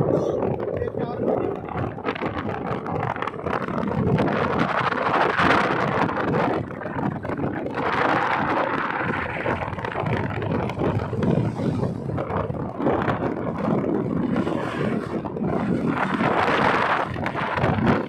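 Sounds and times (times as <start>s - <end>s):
motorcycle engine and road noise: 0.0s - 18.0s
wind buffeting microphone: 0.0s - 18.0s.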